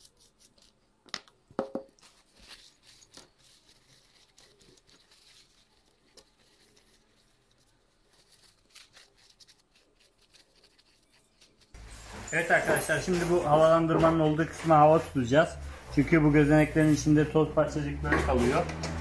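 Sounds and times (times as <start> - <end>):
cloth rustling: 1.9 - 17.3.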